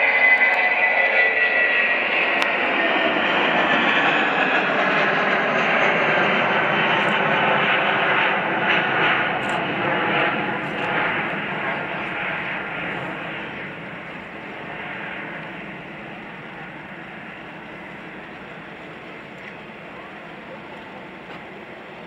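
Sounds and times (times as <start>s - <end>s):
jet engines of passing airliner: 0.0s - 22.0s.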